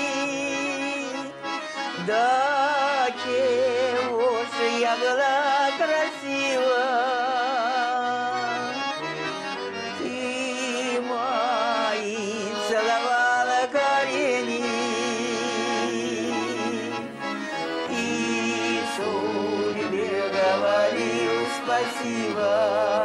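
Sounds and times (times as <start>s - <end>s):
person singing with vibrato: 0.0s - 9.1s, 9.8s - 23.0s
sustained instrumental backing: 0.0s - 23.0s.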